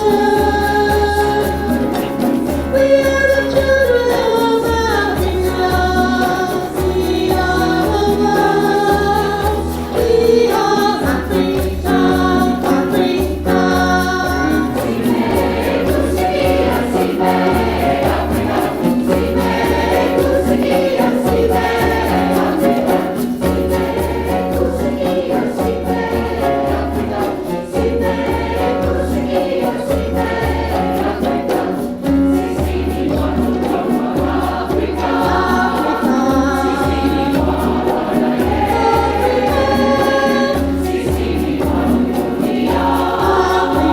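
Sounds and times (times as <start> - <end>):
choir singing in harmony: 0.0 - 43.9.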